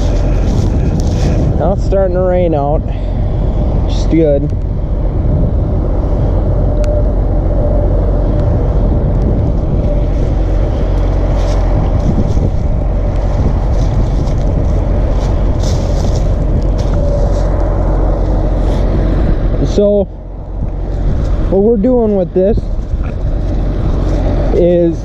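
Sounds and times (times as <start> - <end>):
combine harvester drone: 0.0 - 25.0.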